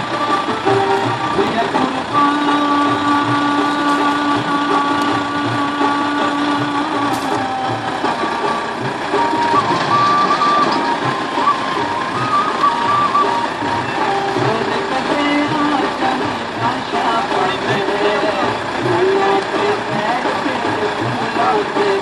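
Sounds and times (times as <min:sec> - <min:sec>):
music with melody over beat: 0:00.0 - 0:22.0.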